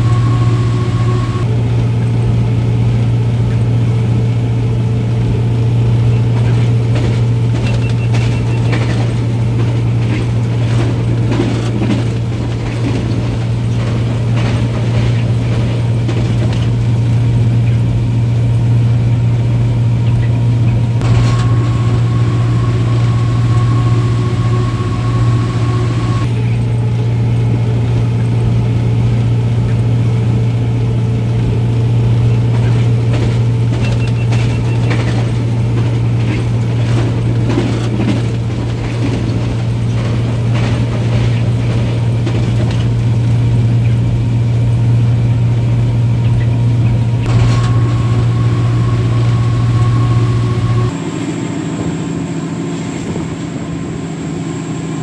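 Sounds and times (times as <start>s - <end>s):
wheels clicking on track: 0.0s - 51.0s
locomotive engine drone: 0.0s - 55.0s.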